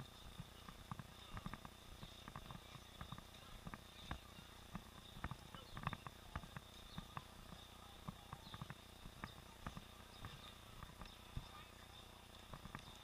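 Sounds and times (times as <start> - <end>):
muffled clicks and knocks: 0.3 - 11.6.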